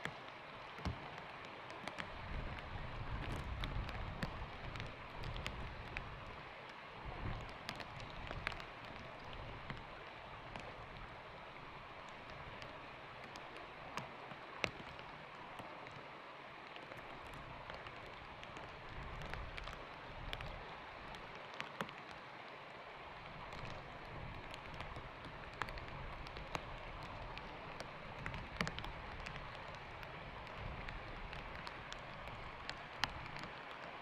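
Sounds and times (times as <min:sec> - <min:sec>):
light rain on water and stones: 0:00.0 - 0:34.0.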